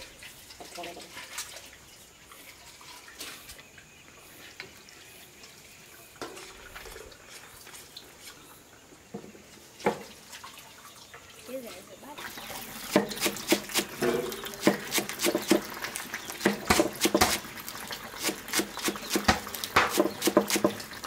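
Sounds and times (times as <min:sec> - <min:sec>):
water dripping and trickling: 0:00.0 - 0:21.0.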